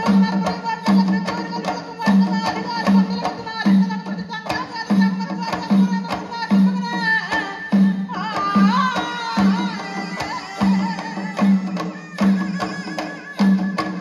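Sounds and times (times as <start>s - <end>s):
barrel drums beating: 0.0s - 14.0s
person singing folk song: 0.0s - 14.0s.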